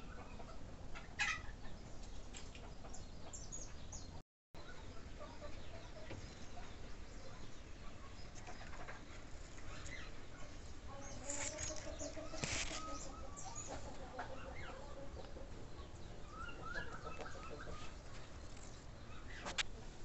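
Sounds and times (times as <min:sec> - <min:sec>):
birds calling: 0:00.0 - 0:19.9.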